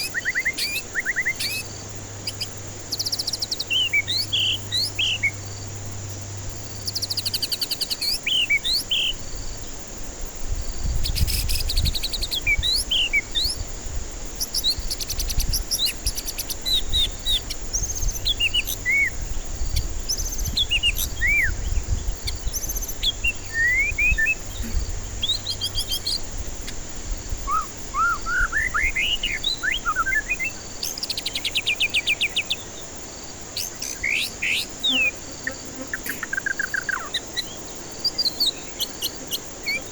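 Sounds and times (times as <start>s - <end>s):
bird singing whistles and trills: 0.0s - 5.4s, 6.8s - 9.2s, 11.0s - 13.6s, 14.4s - 26.8s, 27.4s - 32.9s, 33.6s - 39.9s.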